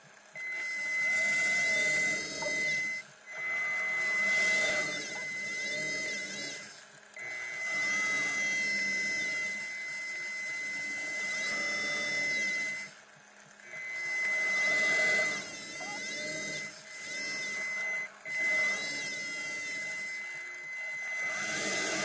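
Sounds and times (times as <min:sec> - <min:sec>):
electric thruster motors whining: 0:00.0 - 0:22.0
steady high whine: 0:00.0 - 0:22.0.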